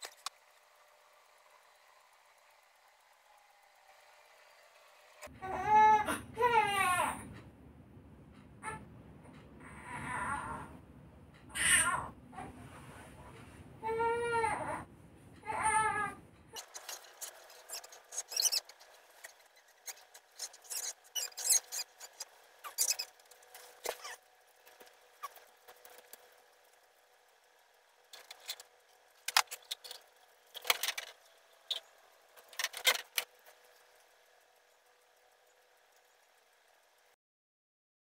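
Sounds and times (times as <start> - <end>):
faint steady hum: 0.0 - 37.2.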